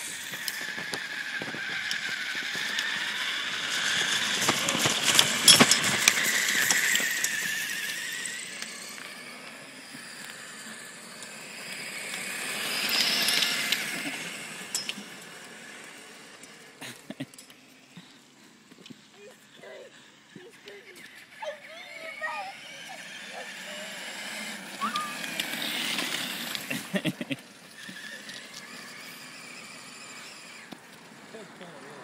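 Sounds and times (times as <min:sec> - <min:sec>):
toy truck electric motors whining: 0:00.0 - 0:32.0.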